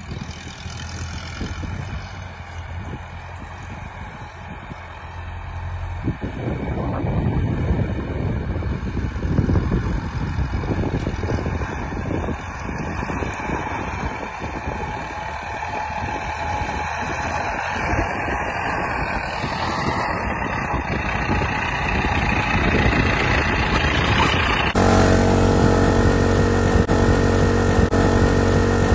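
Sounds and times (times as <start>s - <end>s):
truck diesel engine driving: 0.0s - 28.9s.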